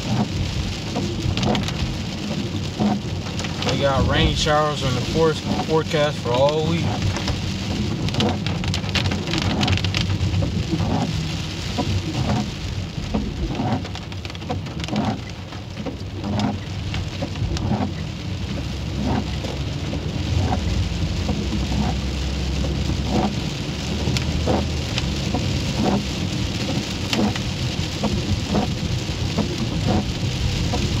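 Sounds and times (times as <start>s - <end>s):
constant low rumble: 0.0s - 31.0s
rain tapping on car: 0.0s - 31.0s.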